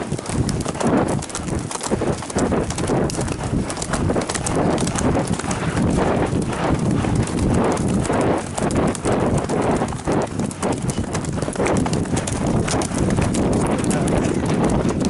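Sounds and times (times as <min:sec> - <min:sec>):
horse hoofbeats on gravel: 0:00.0 - 0:15.0.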